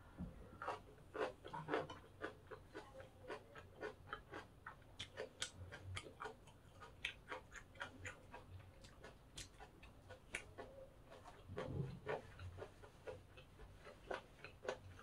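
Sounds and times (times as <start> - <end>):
person chewing crunchy food: 0.6 - 15.0.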